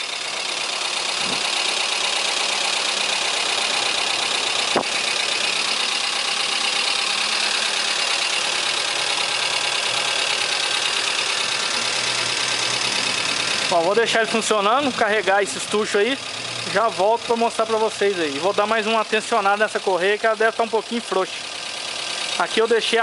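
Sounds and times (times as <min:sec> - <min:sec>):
car engine idling: 0:00.0 - 0:23.0
engine lifters ticking: 0:00.0 - 0:23.0.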